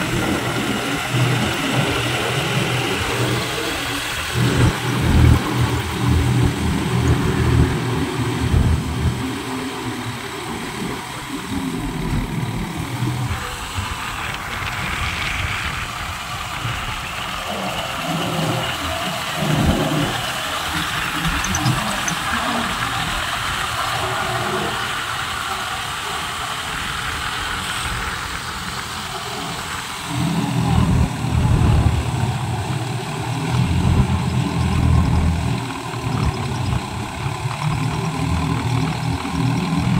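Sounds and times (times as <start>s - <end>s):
churned water and mud hissing: 0.0s - 39.9s
tractor diesel engine under load: 0.0s - 39.9s.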